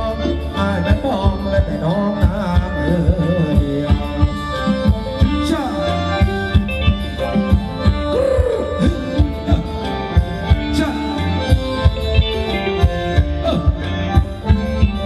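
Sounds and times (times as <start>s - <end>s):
live band dance music: 0.0s - 15.0s
steady drum beat: 0.9s - 15.0s.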